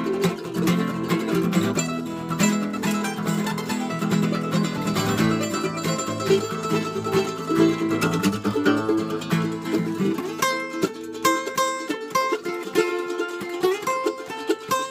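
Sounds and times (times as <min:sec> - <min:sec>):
acoustic guitar strumming: 0:00.0 - 0:14.9
mandolin picking quick notes: 0:00.0 - 0:14.9.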